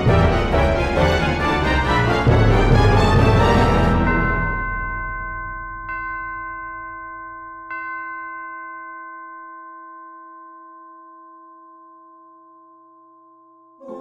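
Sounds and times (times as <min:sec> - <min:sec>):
orchestral bell ringing: 0:00.0 - 0:13.2.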